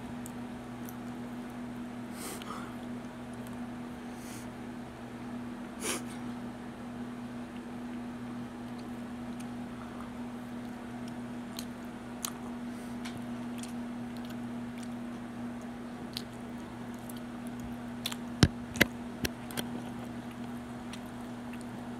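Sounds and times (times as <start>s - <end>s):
steady low hum: 0.0s - 21.9s
wet chewing of food: 0.2s - 3.7s, 7.5s - 21.9s.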